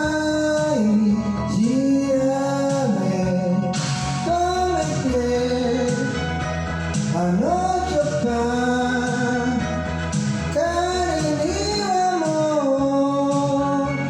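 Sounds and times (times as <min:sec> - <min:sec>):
instrumental accompaniment: 0:00.0 - 0:14.0
person singing a pop song: 0:00.0 - 0:14.0.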